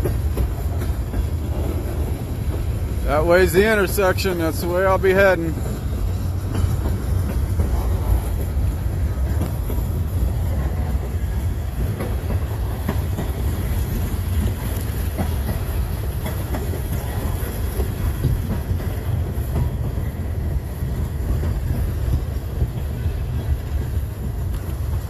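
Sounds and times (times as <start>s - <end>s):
freight train rumbling past: 0.0s - 25.0s
wheels clicking over rails: 0.0s - 25.0s.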